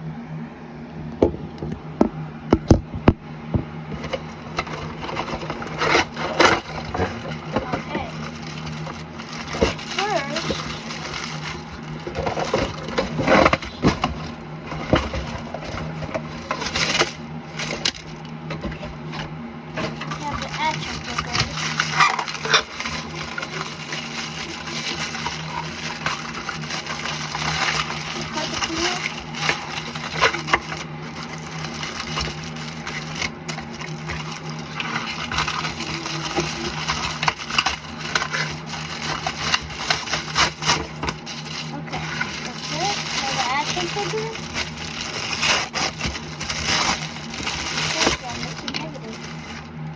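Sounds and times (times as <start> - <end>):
steady low hum: 0.0 - 49.9
packaging clicks and knocks: 1.2 - 49.7
packaging rustling and crinkling: 2.6 - 49.9.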